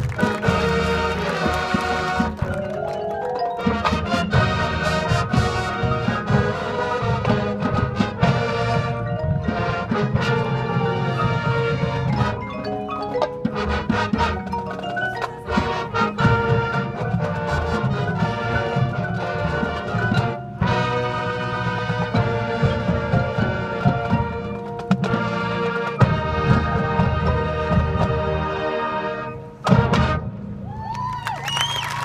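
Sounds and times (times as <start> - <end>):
brass chords: 0.0 - 2.8, 3.5 - 14.8, 15.4 - 30.6
marimba: 0.0 - 29.6
drums and timpani: 0.0 - 30.9.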